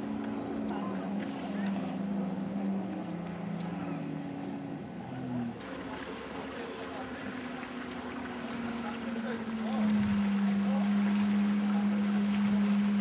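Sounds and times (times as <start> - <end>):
jet ski engines droning: 0.0 - 13.0.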